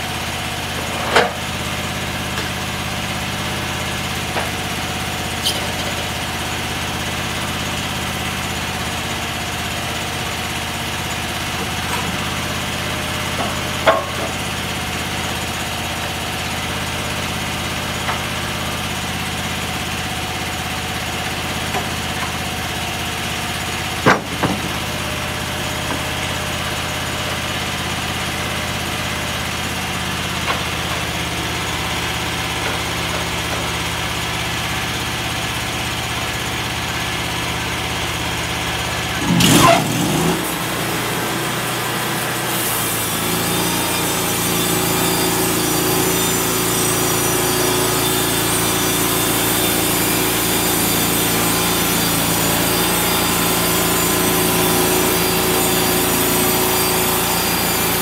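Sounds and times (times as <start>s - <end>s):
small gasoline engine idling: 0.0s - 58.0s.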